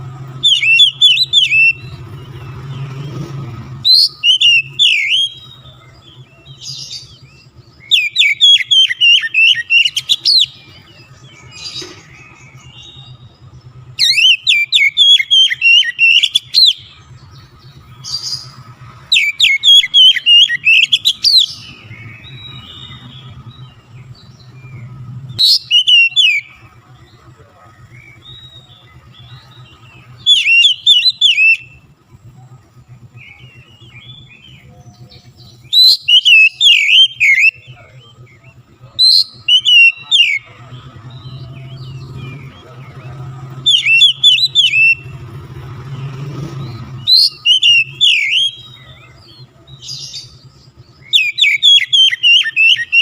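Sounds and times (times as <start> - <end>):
bird singing whistled phrases: 0.4 - 3.2, 3.8 - 27.1, 27.9 - 31.8, 33.2 - 45.3, 46.4 - 53.0.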